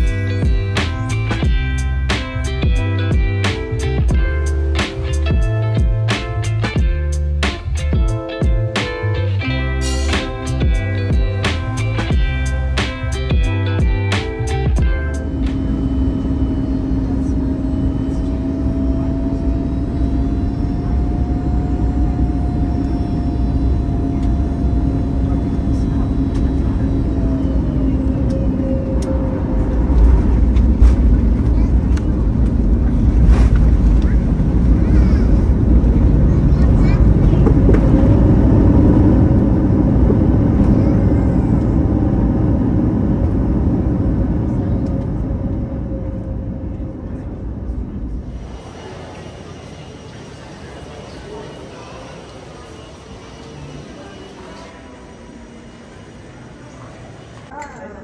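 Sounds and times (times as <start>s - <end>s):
vehicle noise rumble: 0.0s - 51.8s
jet aircraft noise: 0.0s - 58.0s.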